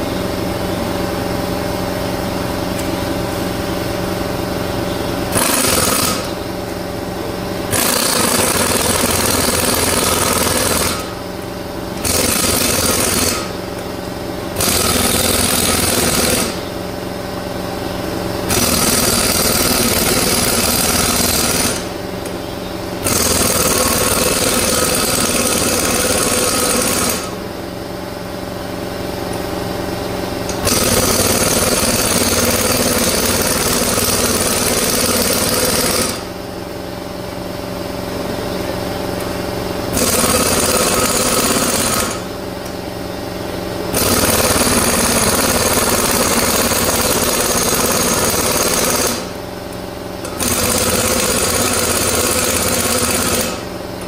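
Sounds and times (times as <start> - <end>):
pneumatic air hammer rattling: 0.0 - 54.0
steady machine hum: 0.0 - 54.0.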